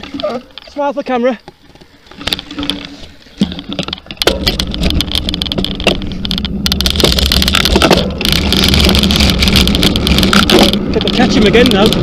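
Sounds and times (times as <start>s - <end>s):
bike rattles and knocks: 0.0s - 12.0s.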